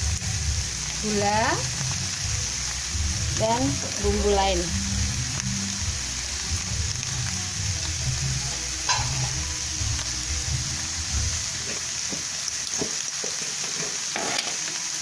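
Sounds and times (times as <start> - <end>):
filling sizzling in hot oil: 0.0 - 15.0.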